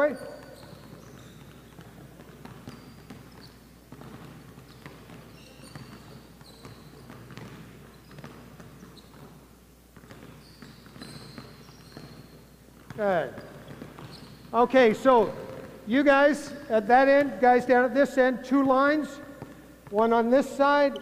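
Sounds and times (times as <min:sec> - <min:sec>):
basketballs bouncing on wooden floor: 0:00.0 - 0:21.0
sneaker squeaks: 0:00.0 - 0:21.0.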